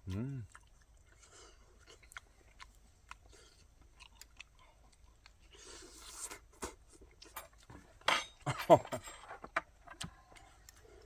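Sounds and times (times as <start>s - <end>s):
small clicks of eating: 0.0s - 7.8s, 9.4s - 11.0s.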